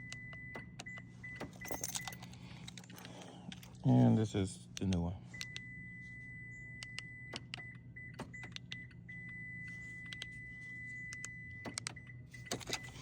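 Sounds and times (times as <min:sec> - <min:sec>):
key fobs clicking and knocking: 0:00.0 - 0:03.8, 0:04.7 - 0:05.8, 0:06.7 - 0:13.0
low hum: 0:00.0 - 0:13.0.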